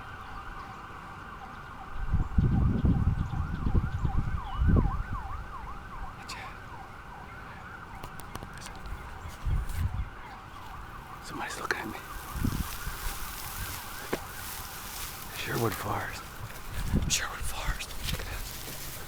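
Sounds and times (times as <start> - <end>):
distant siren wailing: 0.0 - 19.0.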